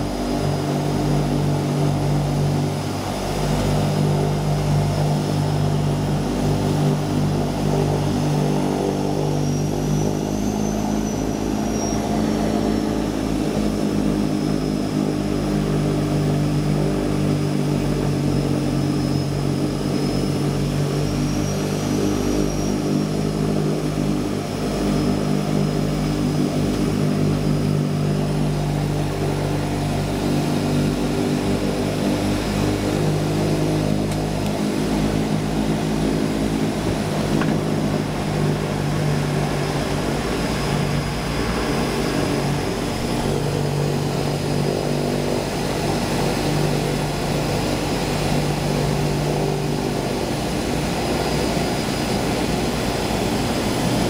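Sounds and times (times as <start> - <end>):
high turbine whine: 0.0 - 54.0
turboprop engine running: 0.0 - 54.0.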